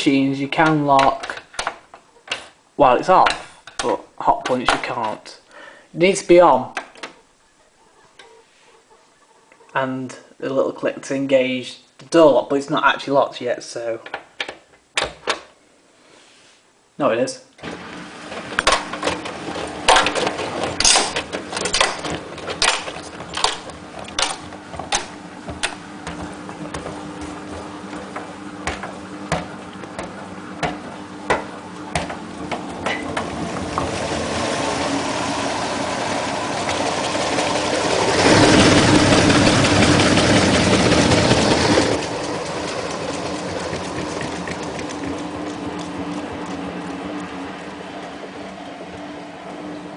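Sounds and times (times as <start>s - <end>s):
washing machine humming: 0.0s - 9.4s, 17.6s - 49.9s.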